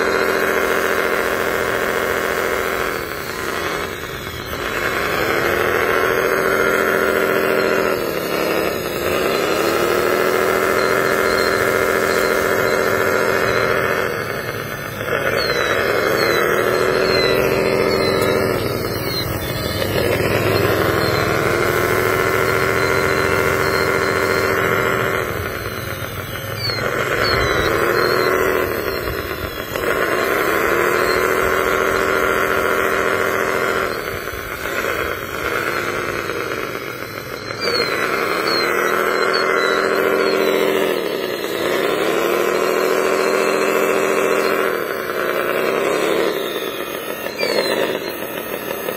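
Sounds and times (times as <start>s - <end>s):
toy motors whining: 0.0s - 48.9s.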